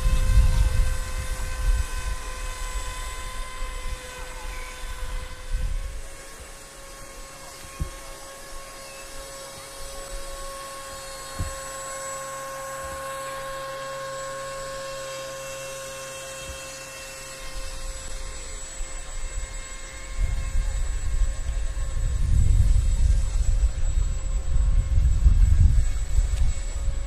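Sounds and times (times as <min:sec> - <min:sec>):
model boat motor whining: 0:00.0 - 0:27.0.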